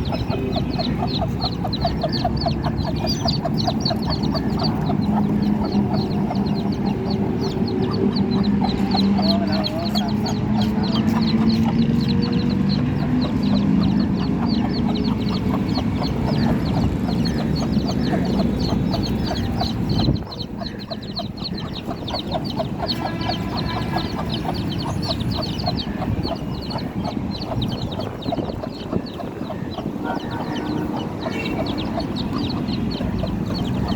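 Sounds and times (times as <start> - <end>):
chicks peeping: 0.0 - 33.9
hen clucking: 0.0 - 33.9.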